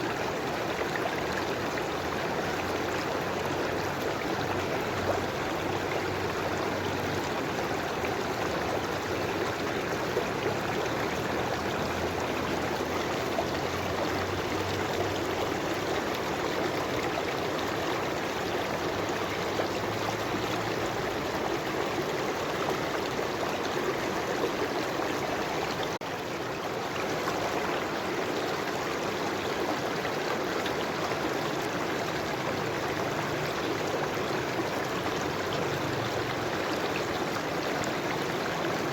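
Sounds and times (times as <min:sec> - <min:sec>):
river water flowing over rocks: 0:00.0 - 0:38.9.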